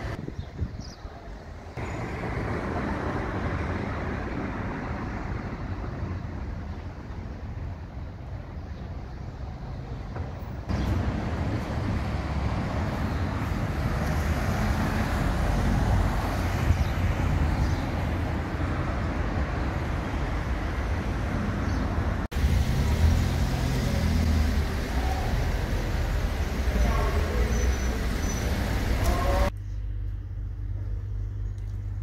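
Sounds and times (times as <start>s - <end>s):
motor vehicles passing: 1.8s - 7.5s, 9.5s - 32.0s.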